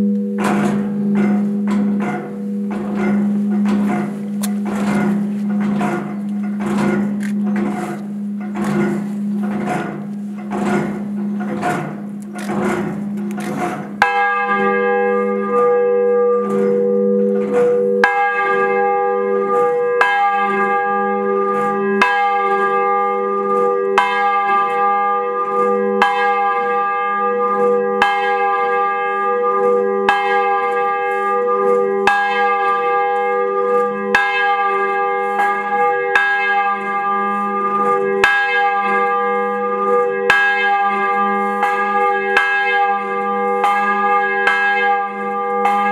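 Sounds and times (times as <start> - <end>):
large bell tolling: 0.0 - 45.9.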